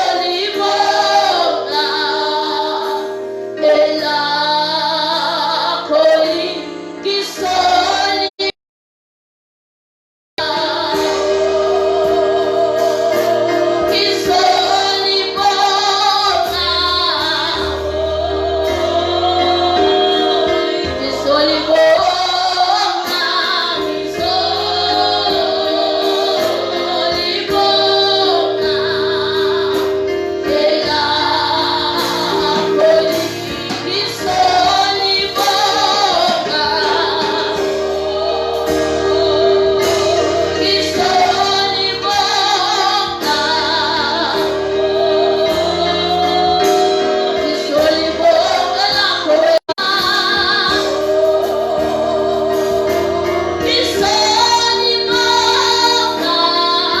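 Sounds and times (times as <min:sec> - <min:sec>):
choir voices singing: 0:00.0 - 0:08.5, 0:10.4 - 0:57.0
keyboard chords: 0:00.0 - 0:08.5, 0:10.4 - 0:57.0
woman singing gospel: 0:00.0 - 0:08.5, 0:10.4 - 0:57.0.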